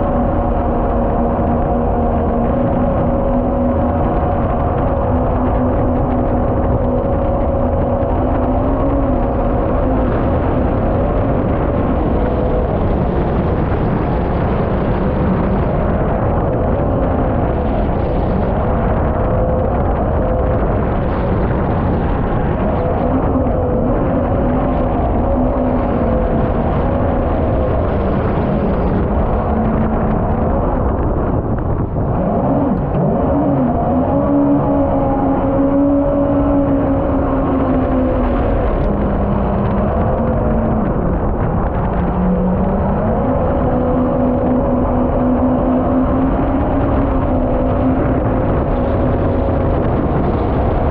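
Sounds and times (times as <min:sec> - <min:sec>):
jet boat engine and water rush: 0:00.0 - 0:50.9.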